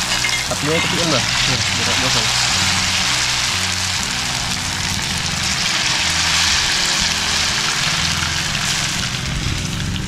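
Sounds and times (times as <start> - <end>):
food deep-frying in oil: 0.0 - 10.0
low hum: 0.0 - 10.0.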